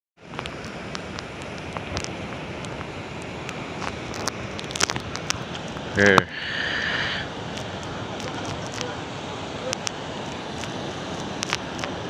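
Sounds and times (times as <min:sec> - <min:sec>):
surf breaking on rocky shore: 0:00.2 - 0:12.0.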